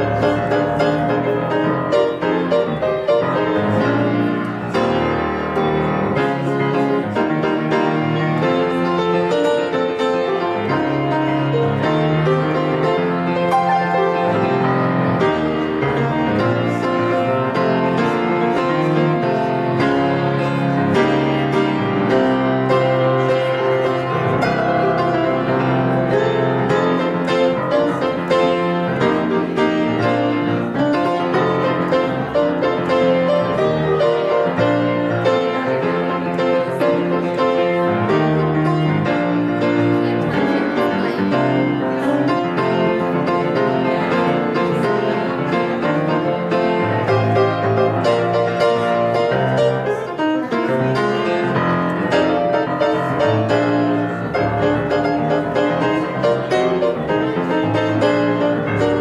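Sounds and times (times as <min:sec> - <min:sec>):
classical piano piece: 0:00.0 - 0:59.0.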